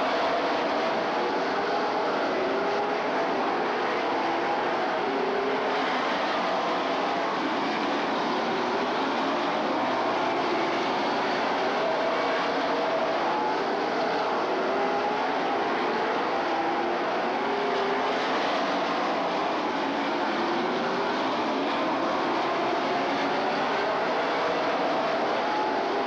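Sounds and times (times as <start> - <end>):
racing car engines: 0.0 - 26.0.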